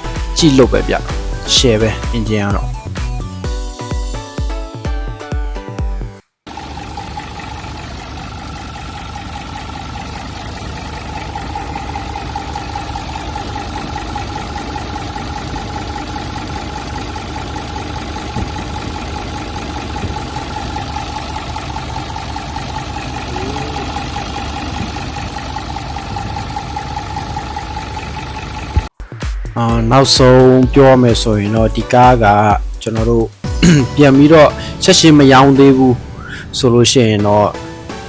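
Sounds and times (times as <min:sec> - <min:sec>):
diesel truck engine idling: 0:00.0 - 0:05.7, 0:06.5 - 0:28.9, 0:33.4 - 0:38.0.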